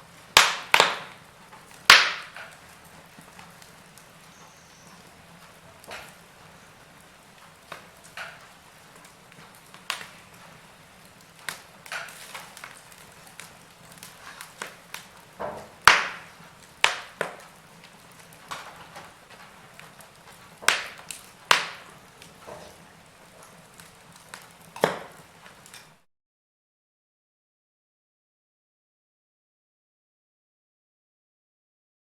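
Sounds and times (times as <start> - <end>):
fire hissing: 0.0 - 26.0
wood fire crackling: 0.0 - 26.1.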